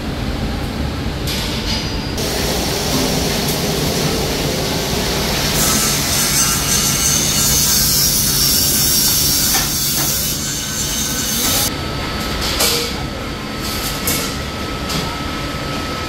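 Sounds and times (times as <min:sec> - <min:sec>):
high machine whine: 0:02.1 - 0:16.0.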